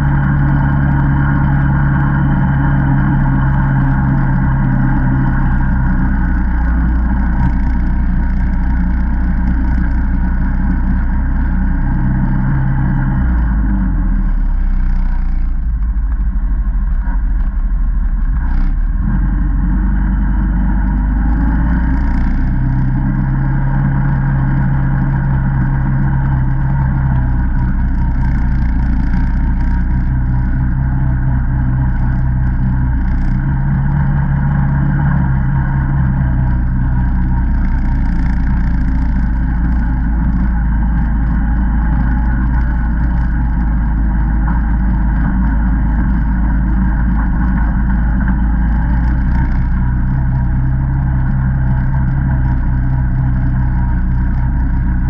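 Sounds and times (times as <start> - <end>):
single-cylinder engine revving: 0.0 - 55.0.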